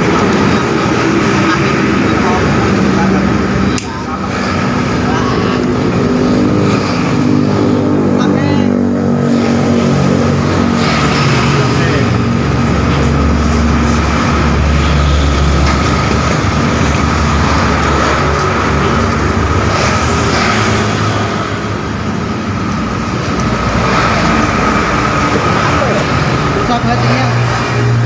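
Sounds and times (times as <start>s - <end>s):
engine running with high tone: 0.0s - 28.0s.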